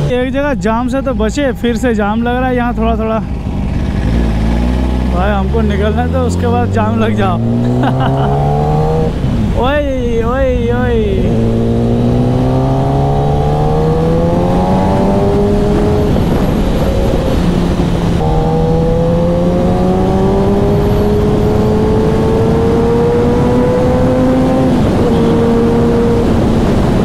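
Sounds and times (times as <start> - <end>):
motorcycle engine accelerating: 0.0 - 9.6, 10.5 - 27.0
wind and road rush: 0.0 - 27.0.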